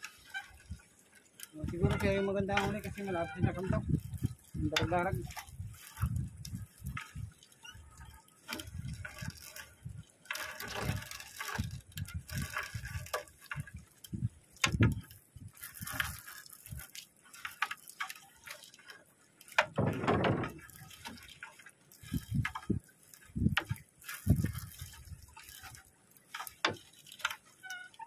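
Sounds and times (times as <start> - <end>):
seawater splashing and dripping: 0.0 - 28.0.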